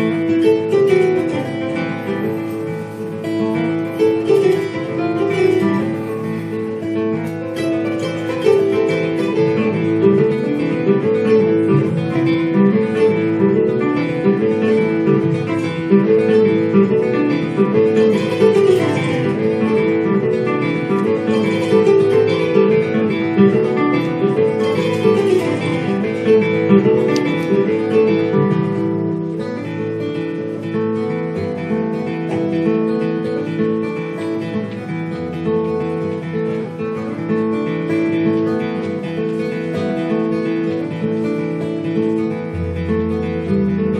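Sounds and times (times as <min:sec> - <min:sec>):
acoustic guitar: 0:00.0 - 0:43.9
kora: 0:00.0 - 0:43.9.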